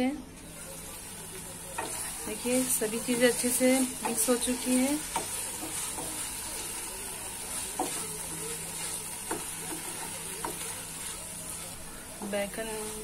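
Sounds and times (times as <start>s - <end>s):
low sizzle: 0.0s - 13.0s
spatula stirring thick food: 0.5s - 13.0s
spatula tapping pan: 1.4s - 13.0s.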